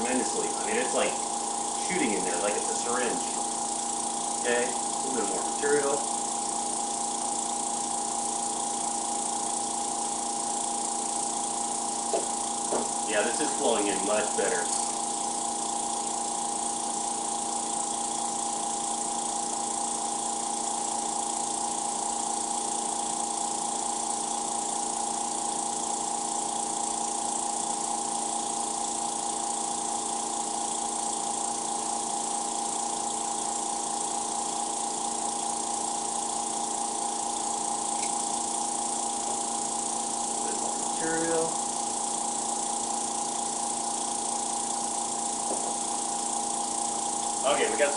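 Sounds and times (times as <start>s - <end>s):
air compressor motor hum: 0.0s - 47.9s.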